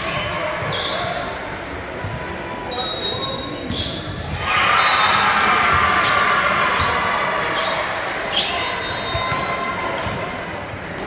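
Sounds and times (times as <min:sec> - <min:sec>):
echoing crowd chatter: 0:00.0 - 0:11.0.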